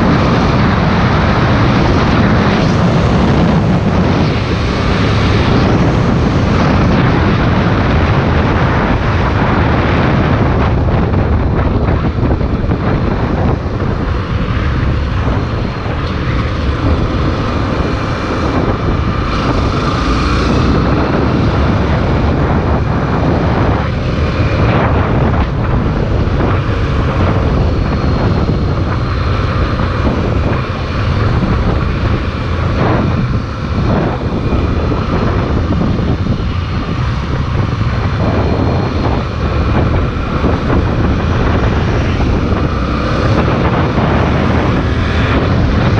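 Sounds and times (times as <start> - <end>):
motorcycle engine running: 0.0 - 45.9
riding noise rushing: 0.0 - 45.9.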